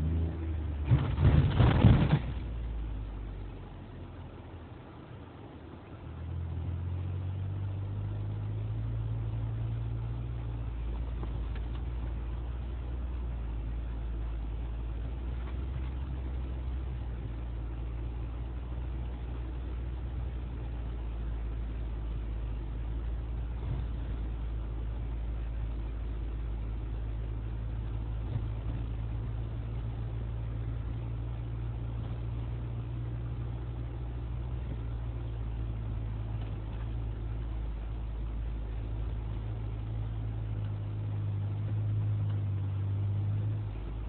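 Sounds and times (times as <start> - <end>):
car engine drone: 0.0 - 44.0
tyre and road noise: 0.0 - 44.0.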